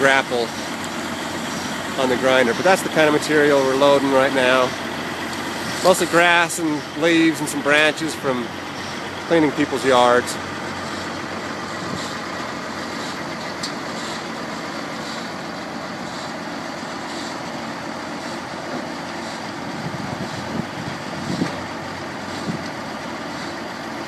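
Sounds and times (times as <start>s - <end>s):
grinder diesel engine running: 0.0s - 24.0s.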